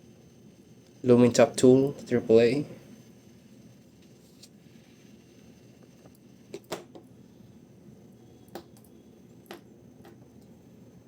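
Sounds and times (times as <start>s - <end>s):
low steady room hum: 0.0s - 11.0s.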